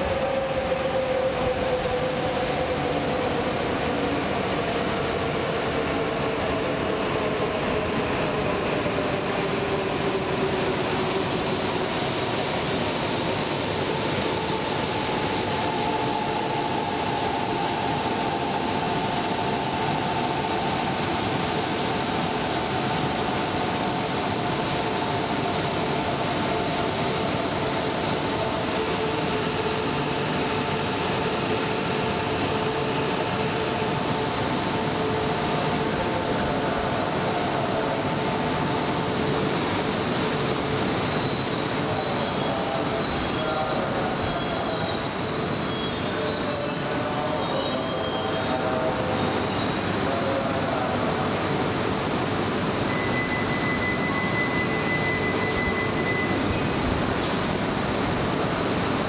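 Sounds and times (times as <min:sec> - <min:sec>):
train equipment and fans humming: 0:00.0 - 0:59.0.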